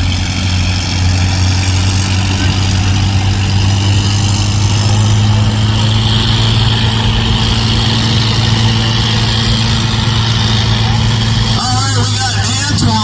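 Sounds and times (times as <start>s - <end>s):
diesel tractor engine running: 0.0s - 13.0s.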